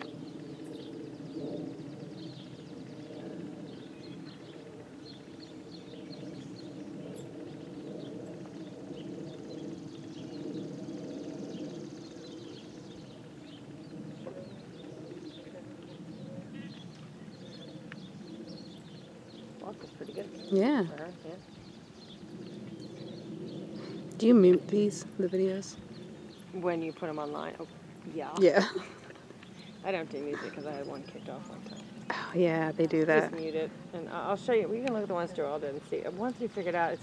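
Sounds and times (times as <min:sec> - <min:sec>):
small birds chirping: 0:00.0 - 0:37.0
steady low rumble: 0:00.0 - 0:37.0.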